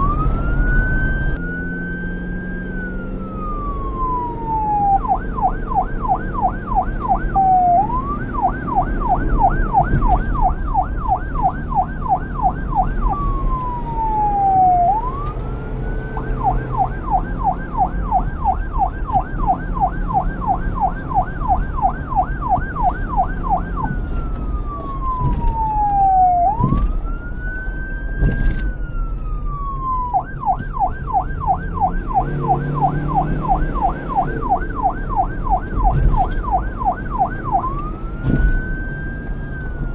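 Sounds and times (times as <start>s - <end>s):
police siren yelp and wail: 0.0s - 39.9s.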